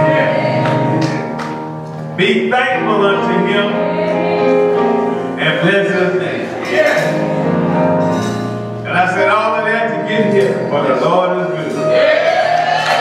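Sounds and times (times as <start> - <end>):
church keyboard chords: 0.0 - 13.0.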